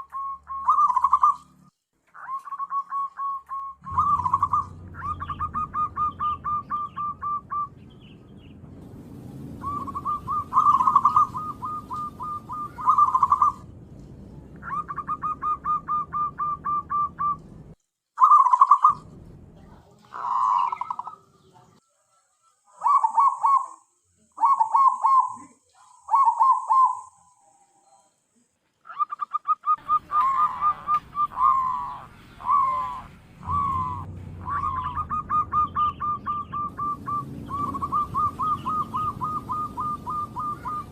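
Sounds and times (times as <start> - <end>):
dove cooing: 0.0 - 7.8, 9.6 - 13.7, 14.6 - 17.5, 18.2 - 19.0, 20.0 - 21.5, 22.7 - 23.8, 24.4 - 27.3, 28.9 - 40.9.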